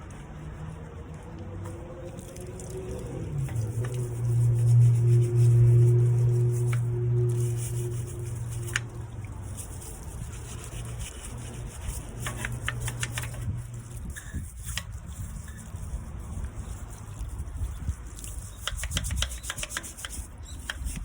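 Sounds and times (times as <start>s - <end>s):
low steady hum: 0.0s - 21.0s
scouring pad scrubbing a tyre: 0.0s - 21.0s.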